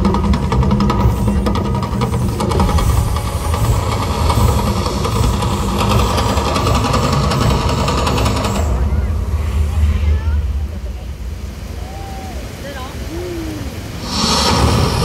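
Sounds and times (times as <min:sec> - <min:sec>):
deep rumble: 0:00.0 - 0:15.0
fire jets roaring: 0:00.0 - 0:15.0.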